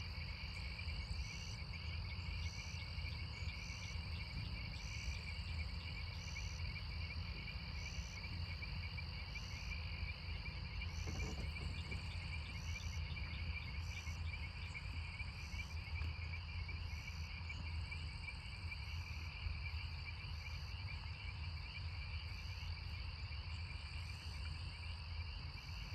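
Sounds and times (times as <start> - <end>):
low steady rumble: 0.0 - 21.6
frogs and insects trilling: 0.0 - 25.9.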